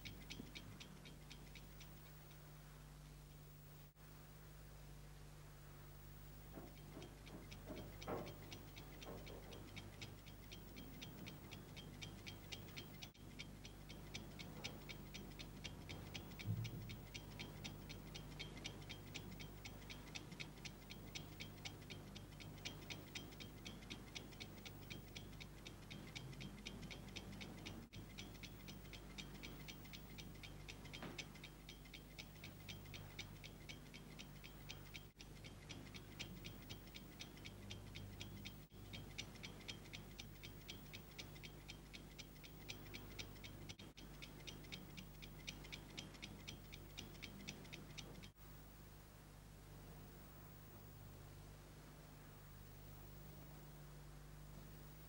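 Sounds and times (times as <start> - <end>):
alarm clock ticking: 0.0 - 2.5, 6.4 - 48.4
low steady hum: 0.0 - 55.0.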